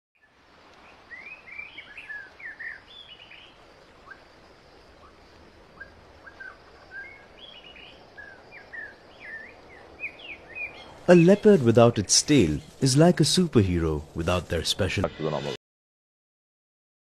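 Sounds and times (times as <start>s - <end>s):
steady background hiss: 0.2s - 15.6s
birds chirping: 0.8s - 15.5s.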